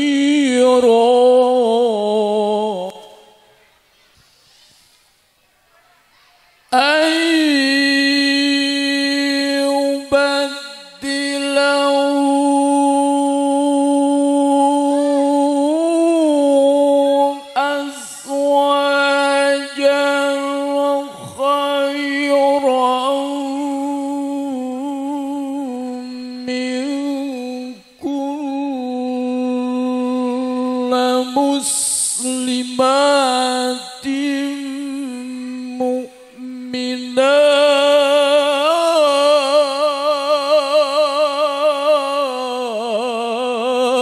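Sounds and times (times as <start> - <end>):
man reciting melodically: 0.0 - 3.5, 6.7 - 44.0.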